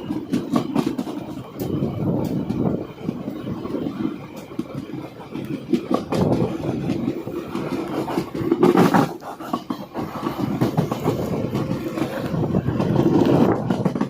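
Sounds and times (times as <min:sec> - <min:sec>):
rail clicks: 0:00.0 - 0:14.0
train rumbling on track: 0:00.0 - 0:14.0.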